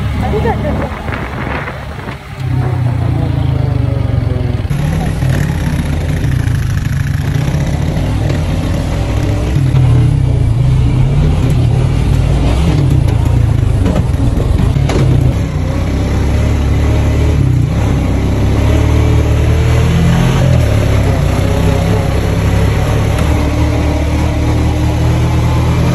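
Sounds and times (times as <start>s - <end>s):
buggy engine running: 0.0s - 25.9s.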